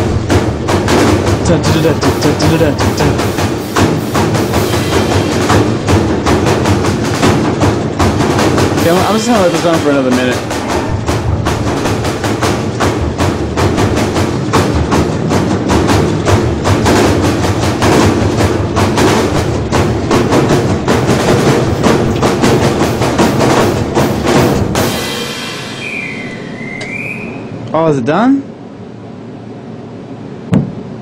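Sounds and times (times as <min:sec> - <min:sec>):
low drum pulse: 0:00.0 - 0:25.6
snare drum strokes: 0:00.0 - 0:27.3.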